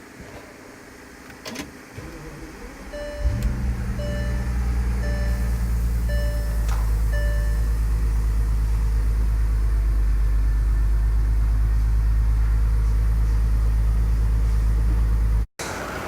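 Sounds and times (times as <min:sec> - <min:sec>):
car engine idling: 0:01.8 - 0:16.0.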